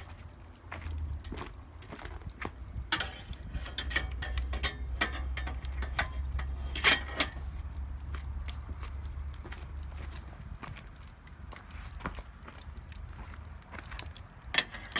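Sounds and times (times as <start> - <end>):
low steady rumble: 0.0 - 14.9
wood fire crackling and popping: 0.0 - 14.9.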